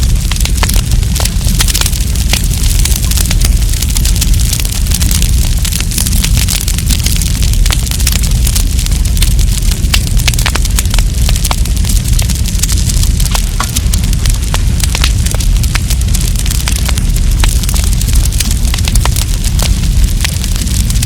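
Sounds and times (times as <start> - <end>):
campfire crackling and popping: 0.0 - 21.0
low fire rumble: 0.0 - 21.0.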